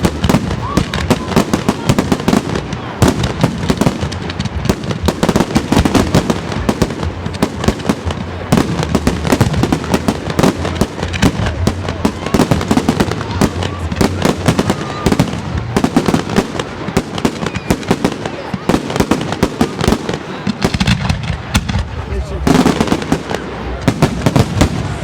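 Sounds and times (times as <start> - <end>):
fireworks bursting and crackling: 0.0 - 25.0.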